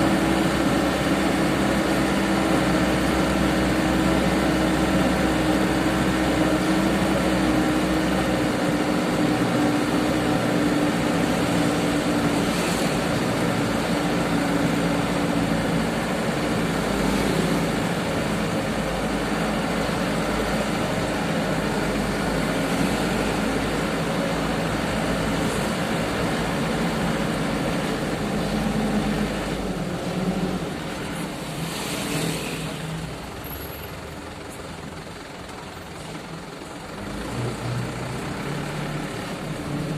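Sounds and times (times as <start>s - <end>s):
truck engine running: 0.0s - 31.7s, 32.6s - 39.9s.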